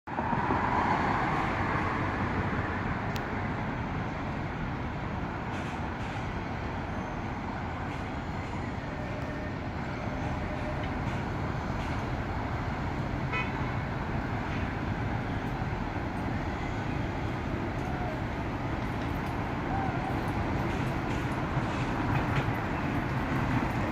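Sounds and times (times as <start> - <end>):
road traffic hum: 0.1 - 23.9.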